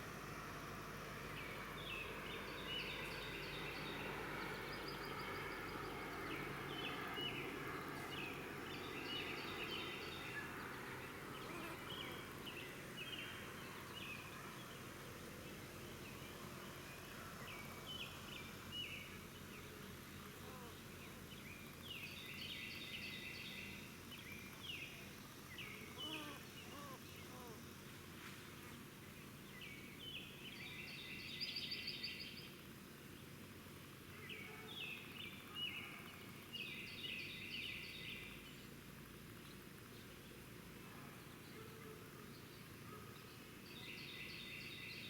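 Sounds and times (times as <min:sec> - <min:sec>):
low outdoor background noise: 0:00.0 - 0:45.0
songbirds chirping: 0:00.6 - 0:45.0.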